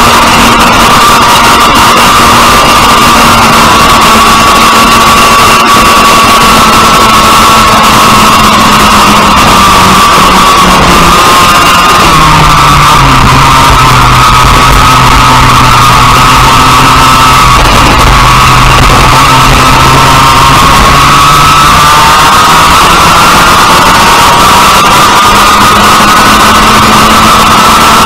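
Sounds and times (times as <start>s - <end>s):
kart engine howling: 0.0s - 28.0s.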